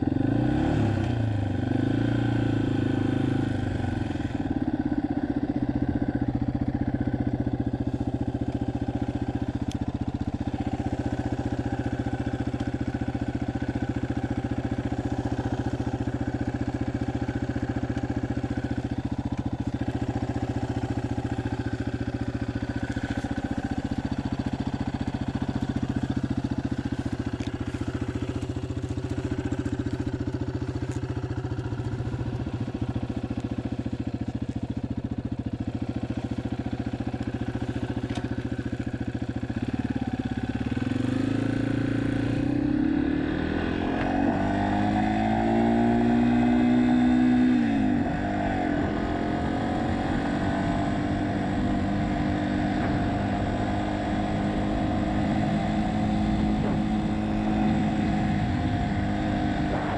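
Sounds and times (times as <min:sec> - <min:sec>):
motorcycle engine running and revving: 0:00.0 - 0:59.9.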